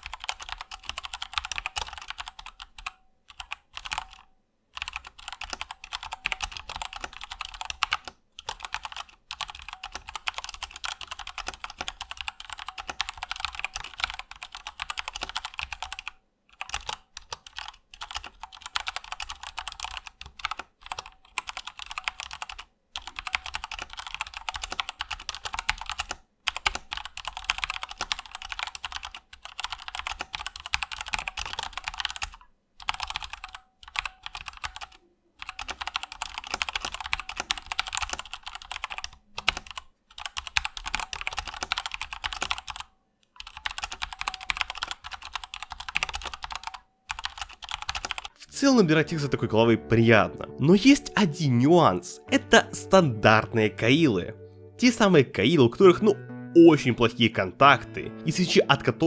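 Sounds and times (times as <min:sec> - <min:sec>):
mechanical keyboard typing: 0:00.0 - 0:48.3.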